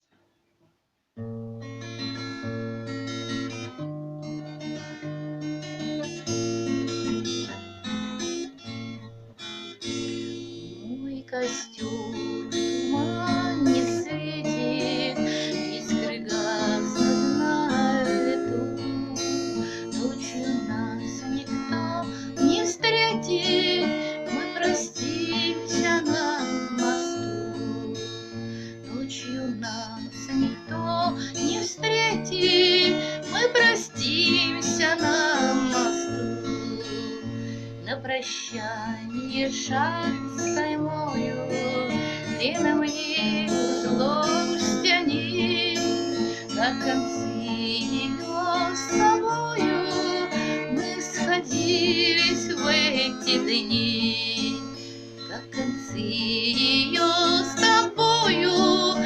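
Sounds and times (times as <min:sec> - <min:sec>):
acoustic guitar chords: 0:01.2 - 0:59.0.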